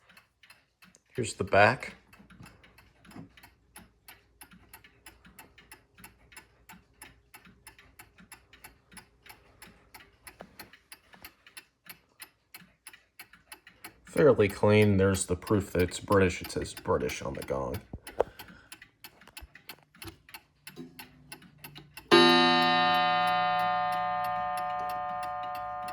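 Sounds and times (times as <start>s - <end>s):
clock ticking: 0.0s - 25.9s.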